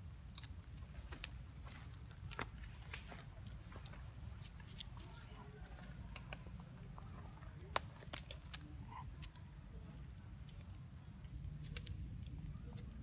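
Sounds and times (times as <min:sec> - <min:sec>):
monkey chewing leaves: 0:00.0 - 0:13.0.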